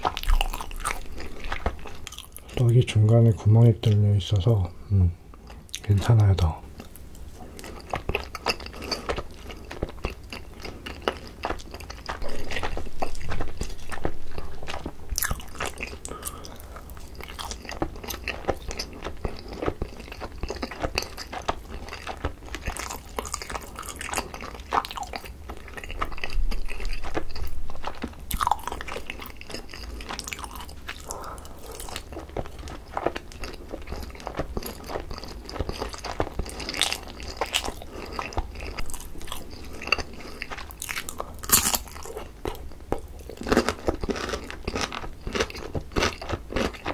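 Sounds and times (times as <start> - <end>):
wet chewing: 0.0 - 2.6, 5.4 - 46.9.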